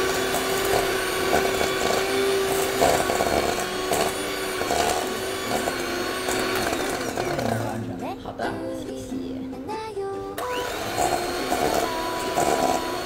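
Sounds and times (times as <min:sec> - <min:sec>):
electric hand mixer running: 0:00.0 - 0:08.0, 0:10.4 - 0:13.0.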